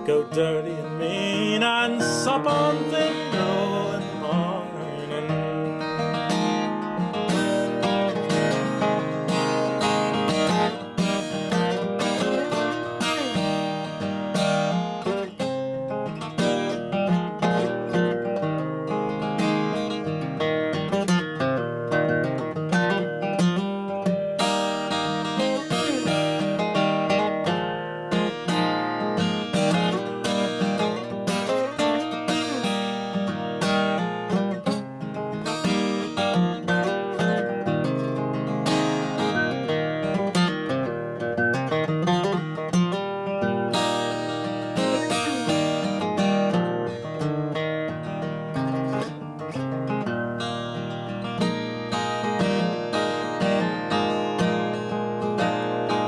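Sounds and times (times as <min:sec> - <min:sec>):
acoustic guitar strumming chords: 0:00.0 - 0:56.0.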